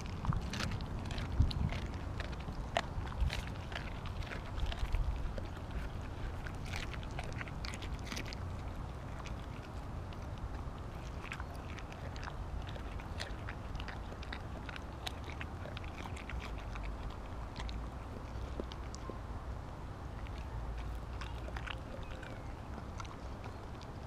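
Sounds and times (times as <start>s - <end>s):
dog crunching fish: 0.0s - 24.0s
low steady rumble: 0.0s - 24.0s.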